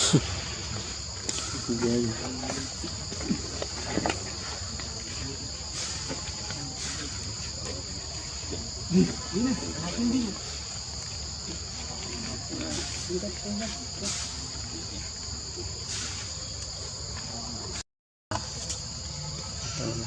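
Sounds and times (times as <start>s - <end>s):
insects droning chorus: 0.0s - 20.0s.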